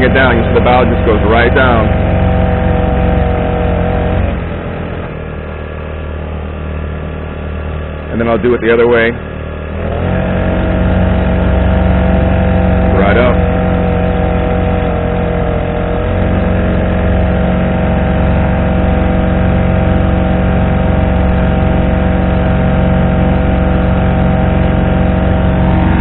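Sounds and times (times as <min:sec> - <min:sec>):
outboard engine running: 0:00.0 - 0:26.0.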